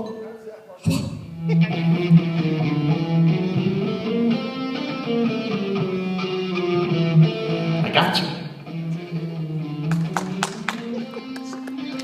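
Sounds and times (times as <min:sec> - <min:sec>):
amplified guitar picking: 0:00.8 - 0:12.0.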